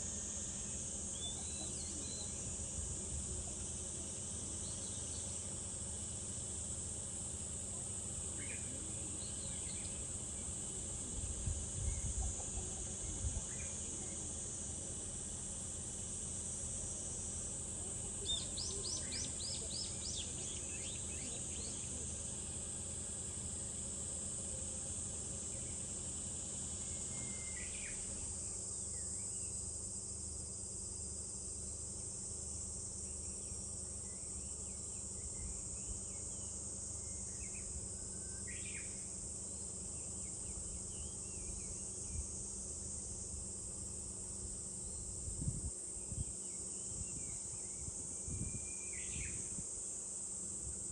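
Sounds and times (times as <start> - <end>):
cicadas droning: 0.0 - 50.9.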